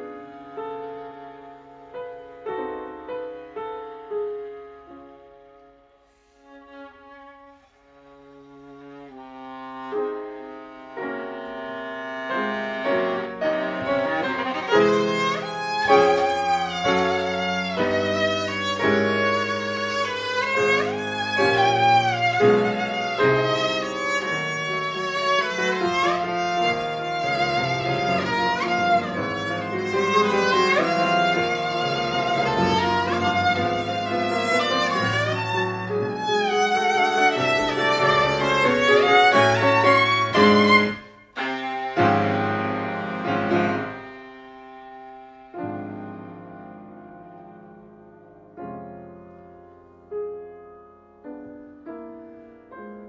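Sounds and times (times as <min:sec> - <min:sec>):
viola bowed melody: 0:00.0 - 0:50.0
piano accompaniment: 0:00.0 - 0:53.0.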